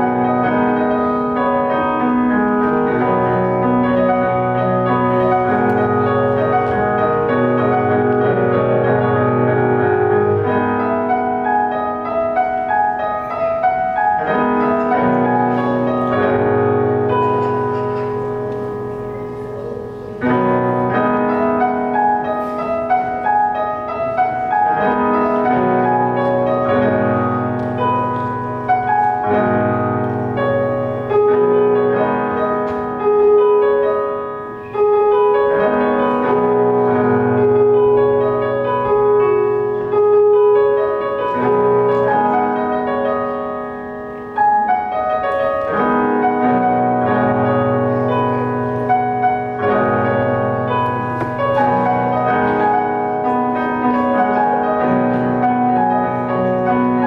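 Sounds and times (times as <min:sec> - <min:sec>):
electronic keyboard piano piece: 0:00.0 - 0:57.0.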